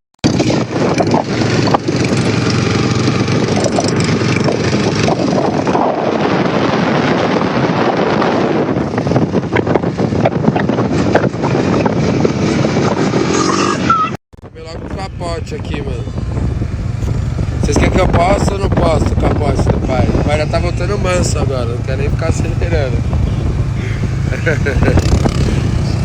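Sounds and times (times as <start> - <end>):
quad bike engine running: 0.2 - 26.0
wind buffeting microphone: 0.2 - 26.0.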